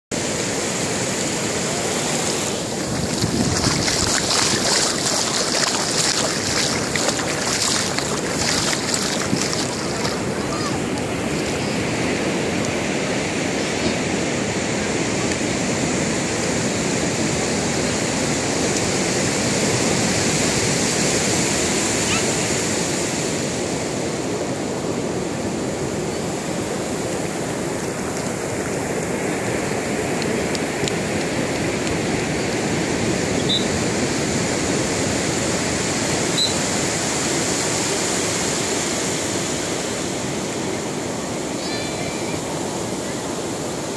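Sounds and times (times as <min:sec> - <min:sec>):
waves breaking on beach: 0:00.2 - 0:43.9.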